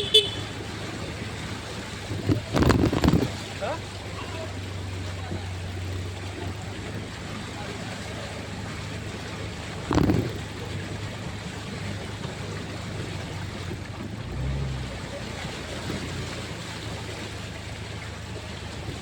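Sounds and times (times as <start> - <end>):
motorcycle engine hum: 0.0 - 19.0
wind and rain noise: 0.0 - 19.0.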